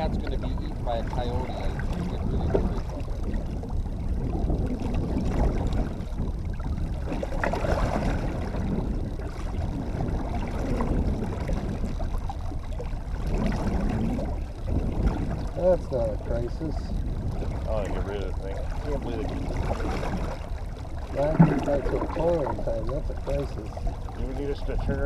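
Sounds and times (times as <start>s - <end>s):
boat motor drone: 0.0s - 25.0s
water washing along hull: 0.0s - 25.0s.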